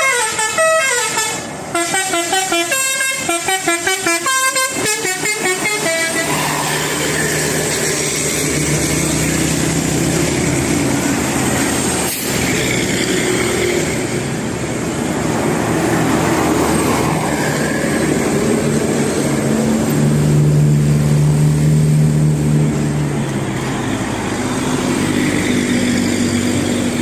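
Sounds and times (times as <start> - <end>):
bus engine: 0.0 - 27.0
road noise: 0.0 - 27.0.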